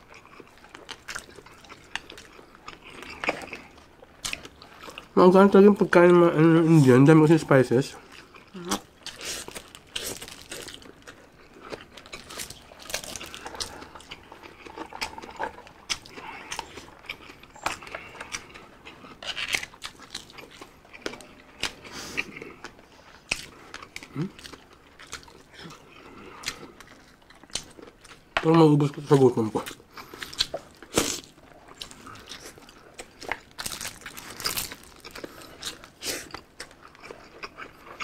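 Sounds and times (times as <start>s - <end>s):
people chewing: 0.0s - 38.0s.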